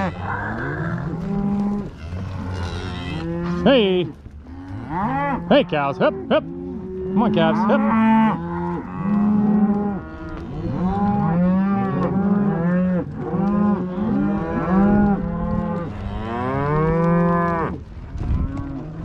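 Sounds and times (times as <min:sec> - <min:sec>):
cows mooing: 0:00.0 - 0:19.0.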